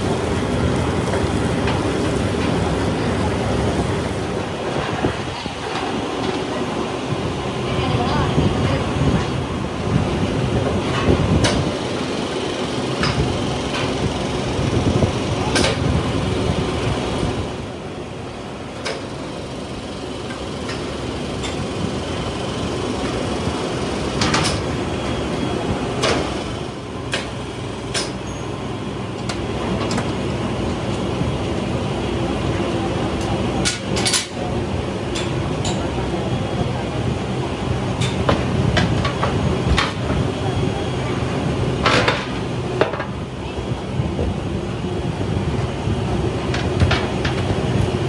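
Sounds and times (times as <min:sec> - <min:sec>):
factory machinery hum: 0:00.0 - 0:48.0.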